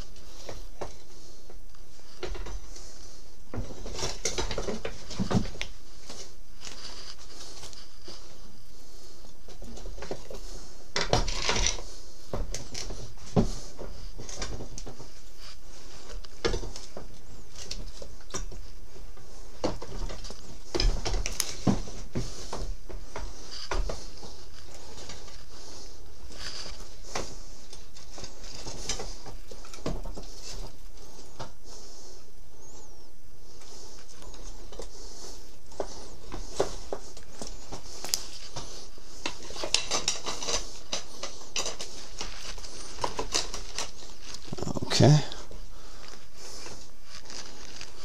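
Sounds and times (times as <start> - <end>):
steady background hiss: 0.0 - 48.0.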